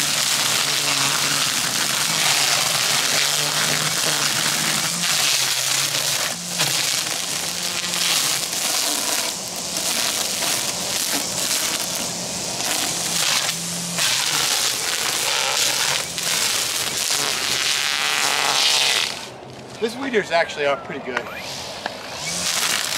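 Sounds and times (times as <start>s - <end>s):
electric motor hum: 0.0s - 19.4s, 21.6s - 22.9s
trimmer line cutting grass: 0.0s - 19.4s, 21.4s - 22.9s.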